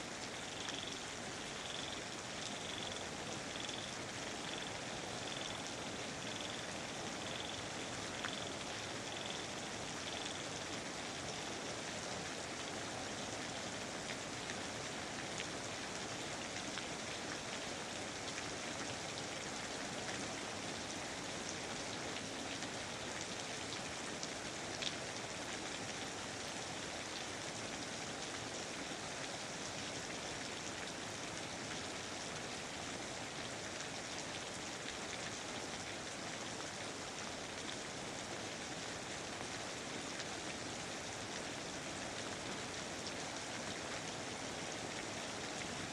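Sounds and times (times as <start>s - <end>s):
raindrops ticking on surfaces: 0.0s - 45.9s
steady rain hiss: 0.0s - 45.9s.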